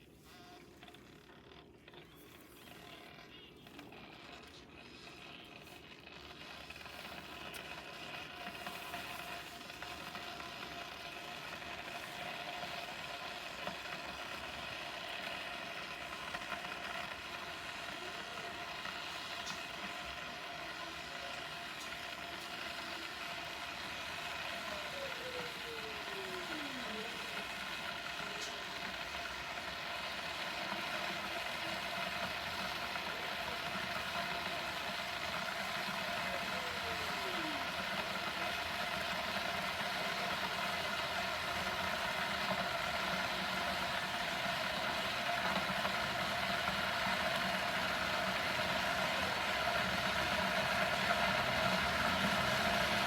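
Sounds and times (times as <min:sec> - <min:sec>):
electric kettle heating water: 0:00.0 - 0:53.0.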